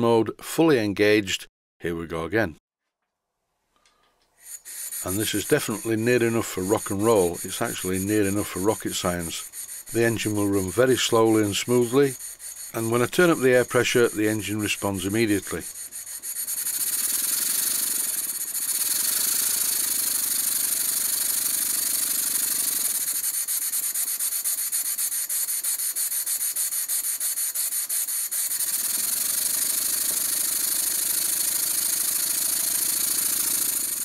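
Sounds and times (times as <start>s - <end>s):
model steam engine running: 4.4s - 34.0s.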